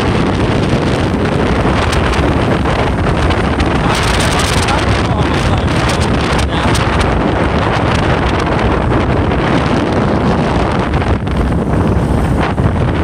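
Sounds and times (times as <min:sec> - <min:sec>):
road and engine noise: 0:00.0 - 0:13.0
wind buffeting microphone: 0:00.0 - 0:13.0.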